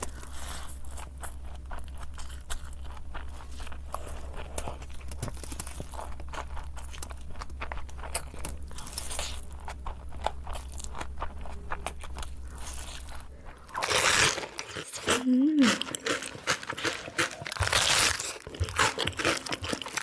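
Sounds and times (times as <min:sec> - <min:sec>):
crunching and chewing food: 0:00.0 - 0:20.0
low steady hum: 0:00.0 - 0:20.0.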